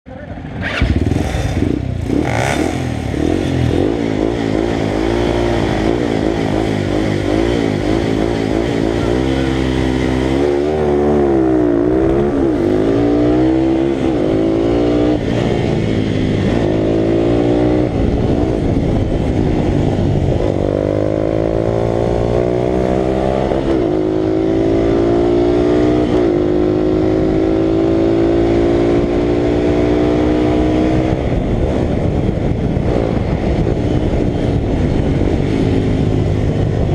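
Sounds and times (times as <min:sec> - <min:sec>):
motorcycle engine racing: 0:00.0 - 0:36.9.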